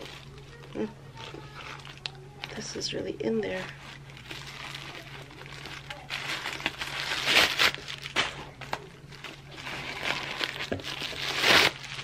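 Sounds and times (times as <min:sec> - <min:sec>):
crinkling paper rustling: 0:00.0 - 0:12.0.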